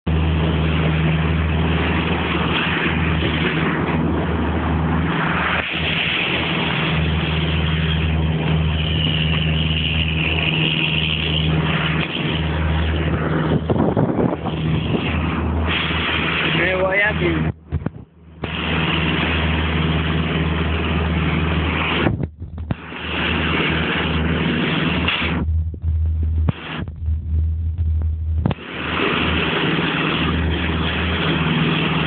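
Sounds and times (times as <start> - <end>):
boat engine droning: 0.0 - 32.0
high steady whine: 0.0 - 32.0
loud rushing noise: 0.1 - 32.0.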